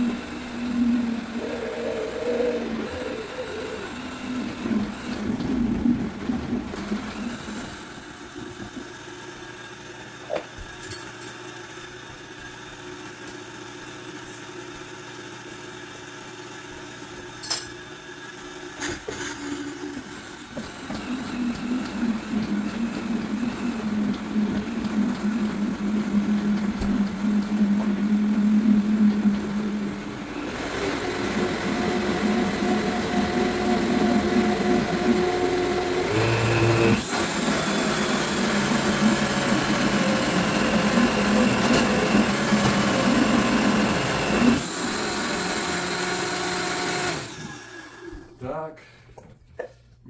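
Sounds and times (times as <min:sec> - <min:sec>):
blender motor running: 0:00.0 - 0:48.3.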